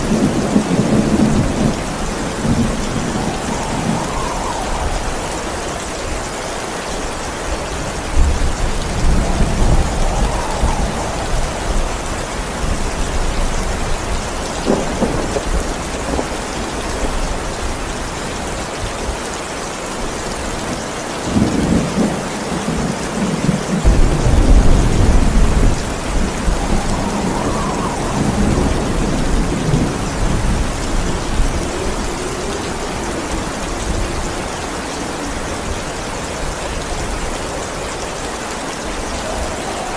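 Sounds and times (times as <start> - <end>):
rolling thunder: 0.0 - 19.0, 21.3 - 39.9
heavy rain: 0.0 - 39.9.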